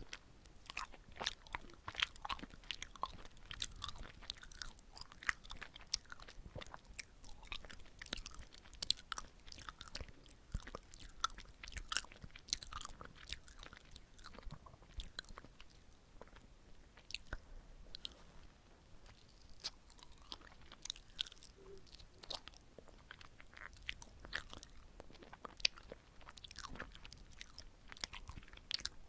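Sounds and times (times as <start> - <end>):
close-miked chewing sounds: 0.0 - 29.0.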